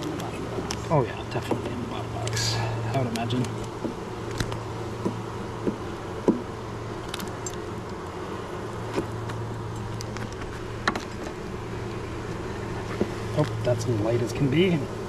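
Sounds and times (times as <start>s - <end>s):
bees humming: 0.0s - 15.0s.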